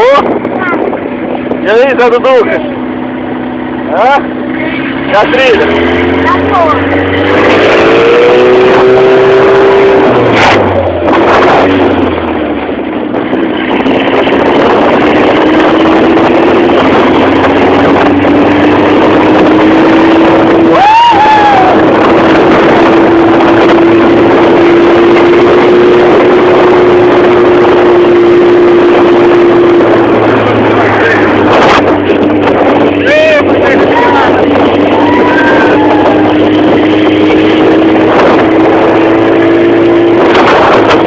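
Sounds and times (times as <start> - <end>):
buggy engine running: 0.0 - 41.0
wind and trail noise: 0.0 - 41.0.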